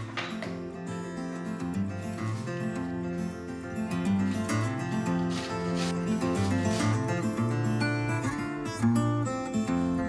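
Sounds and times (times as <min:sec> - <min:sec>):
background guitar music: 0:00.0 - 0:10.0.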